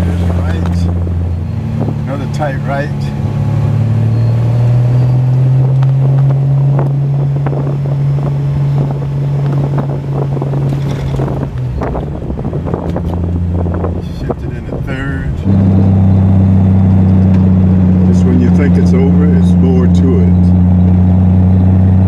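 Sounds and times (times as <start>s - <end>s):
car engine pulling under load: 0.0s - 22.0s.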